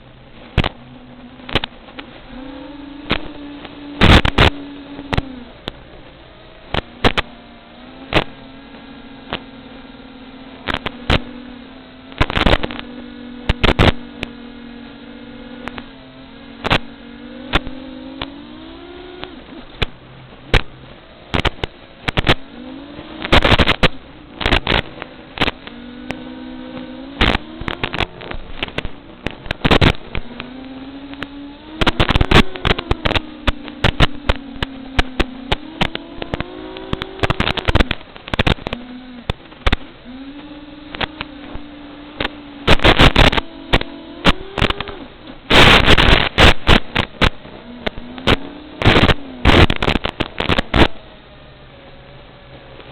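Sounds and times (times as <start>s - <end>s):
sharp clicks and crackles: 0.0s - 51.2s
drone motors whining: 0.0s - 52.9s.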